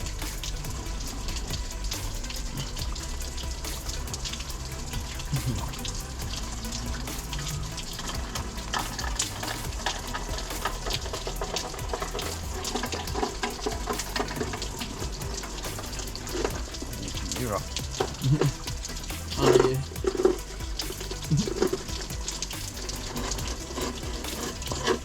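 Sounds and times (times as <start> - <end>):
creek water rushing: 0.0 - 25.0
small clicks and crackles: 0.0 - 25.0.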